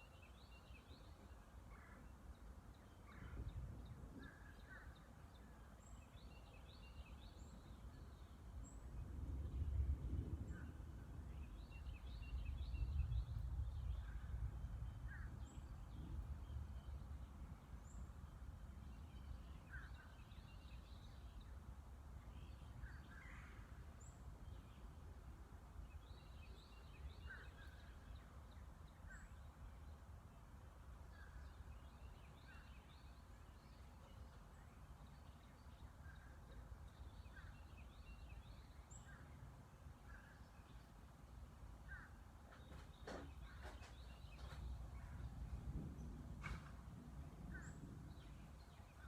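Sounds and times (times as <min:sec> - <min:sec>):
bird calls and chirps: 0:00.0 - 0:21.6, 0:25.8 - 0:30.1, 0:31.0 - 0:41.2, 0:41.8 - 0:49.0
faint low rumble: 0:00.8 - 0:49.0.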